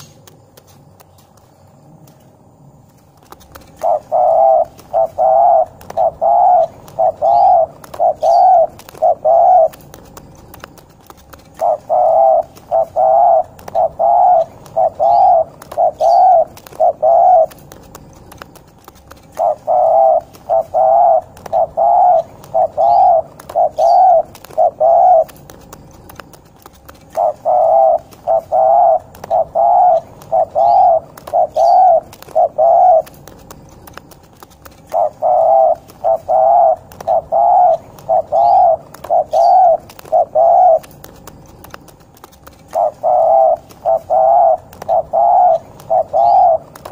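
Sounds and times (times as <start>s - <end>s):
dove cooing: 3.0s - 46.9s.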